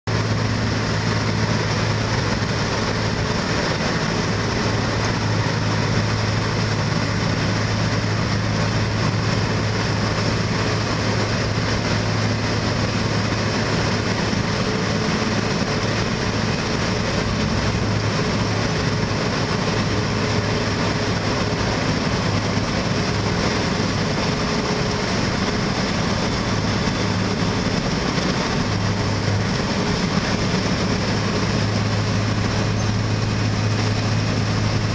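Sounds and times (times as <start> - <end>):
diesel engine humming under load: 0.0 - 34.9
cutting drum grinding road surface: 0.1 - 34.9.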